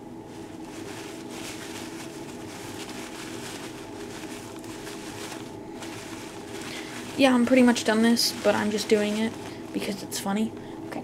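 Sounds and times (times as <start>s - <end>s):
steady low hum: 0.0s - 11.0s
paper towel rustling and crinkling: 0.2s - 10.7s.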